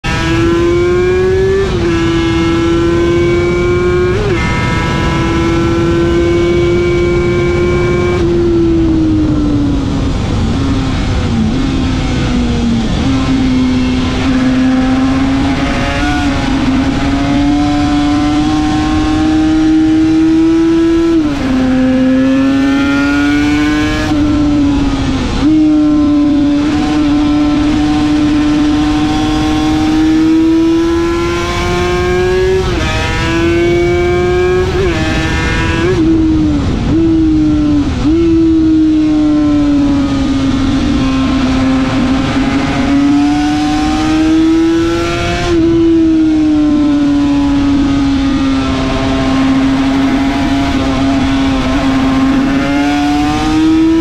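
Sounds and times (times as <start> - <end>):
racing motorcycle engine revving: 0.0 - 54.0.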